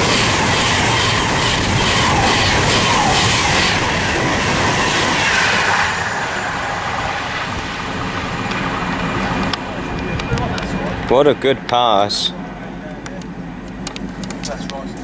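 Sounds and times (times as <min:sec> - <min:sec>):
electric train passing at speed: 0:00.0 - 0:15.0.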